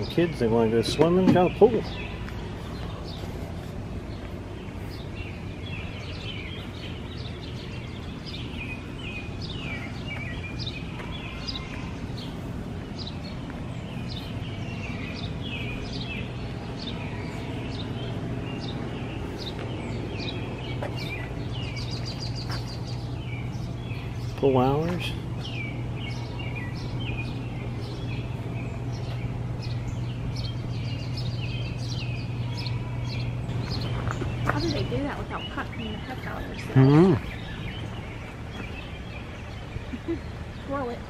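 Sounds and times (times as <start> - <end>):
birds chirping: 0.0 - 41.0
steady low hum: 0.0 - 41.0.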